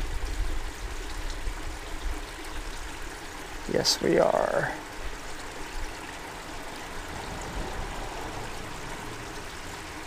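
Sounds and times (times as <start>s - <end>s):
creek trickling: 0.0s - 10.0s.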